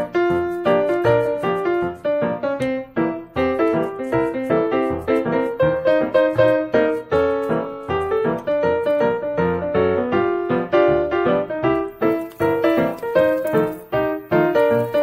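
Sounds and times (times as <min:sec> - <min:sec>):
piano music single notes: 0:00.0 - 0:15.0.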